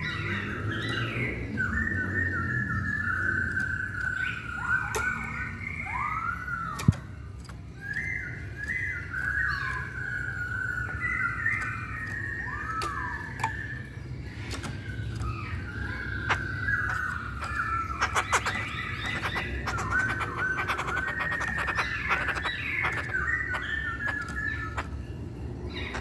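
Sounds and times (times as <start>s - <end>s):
bird singing whistled phrases: 0.9s - 25.1s.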